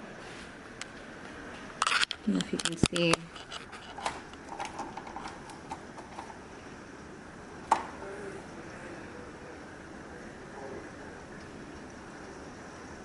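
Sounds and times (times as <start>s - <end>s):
rain and wind outside: 0.0s - 13.0s.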